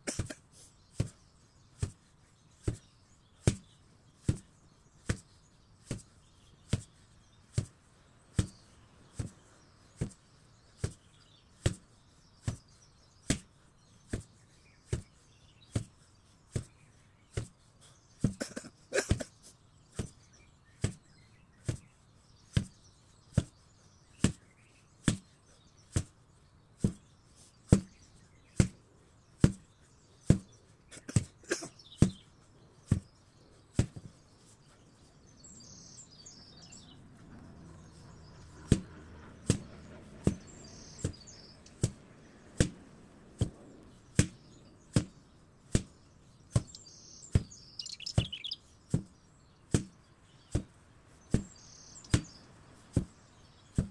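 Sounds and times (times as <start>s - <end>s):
faint birds chirping: 0.0s - 53.9s.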